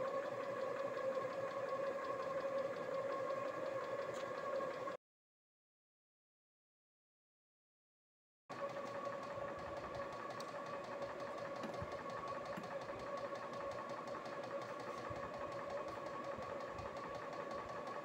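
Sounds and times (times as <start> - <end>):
generator humming and whining: 0.0 - 5.0, 8.5 - 18.0.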